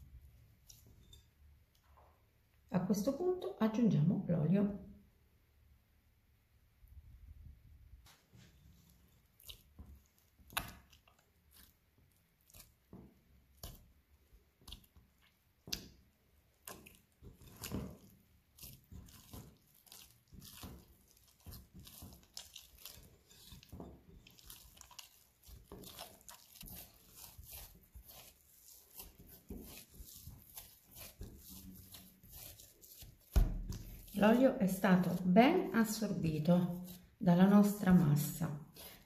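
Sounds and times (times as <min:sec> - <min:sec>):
hands kneading wet dough: 0:00.0 - 0:03.3, 0:06.8 - 0:39.0.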